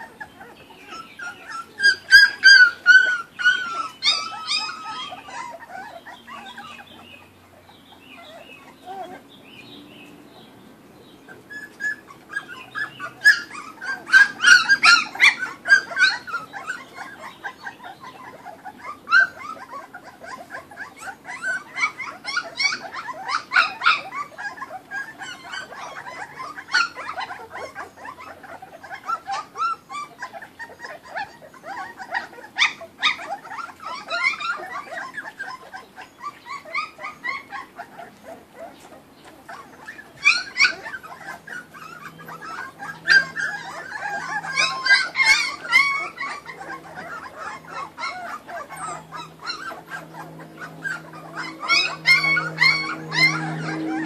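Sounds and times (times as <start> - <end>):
puppies whimpering and squealing: 0.0 - 54.0.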